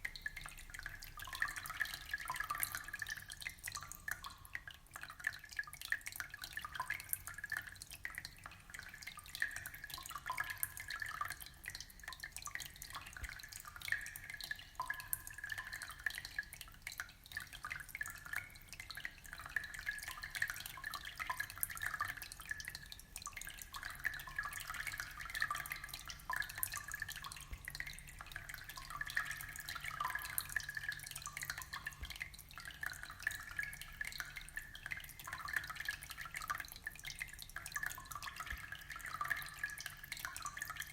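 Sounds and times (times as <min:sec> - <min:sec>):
aquarium water trickling and bubbling: 0:00.0 - 0:40.9.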